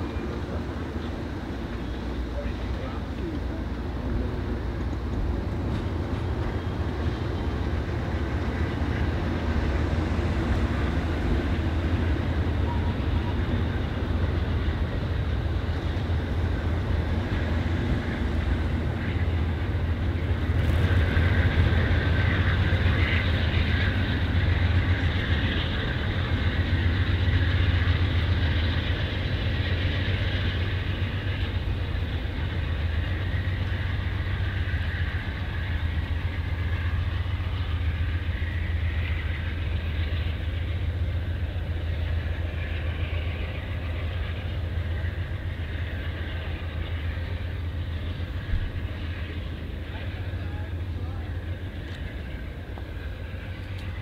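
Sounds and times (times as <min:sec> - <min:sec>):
train cars rumbling on rails: 0:00.0 - 0:54.0.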